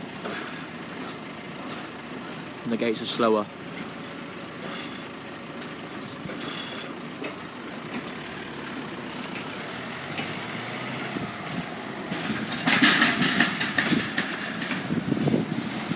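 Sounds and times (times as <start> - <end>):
road vehicle noise: 0.0 - 15.9
vehicle rattling clatter: 0.0 - 15.9.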